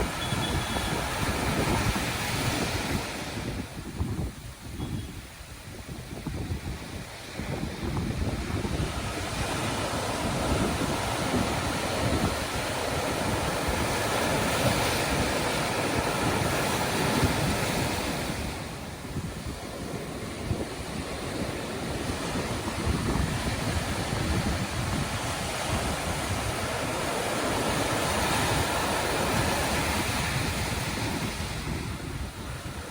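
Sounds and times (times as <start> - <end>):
sea waves breaking on shore: 0.0 - 32.9
wind buffeting microphone: 0.0 - 32.9.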